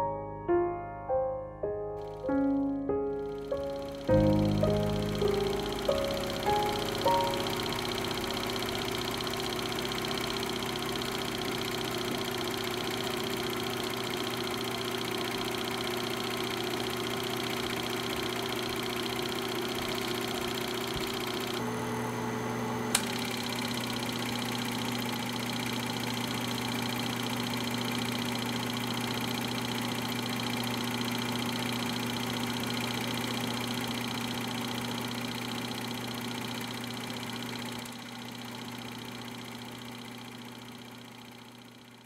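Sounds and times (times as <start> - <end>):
projector click: 2.0 - 21.7, 22.8 - 38.1
film projector whirring: 2.0 - 42.0.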